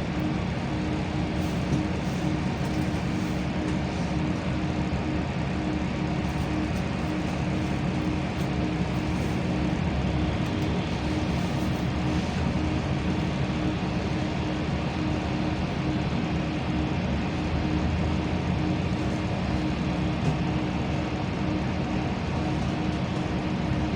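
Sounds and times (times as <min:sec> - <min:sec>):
bus engine and road noise: 0:00.0 - 0:23.9
constant low hum: 0:00.0 - 0:23.9.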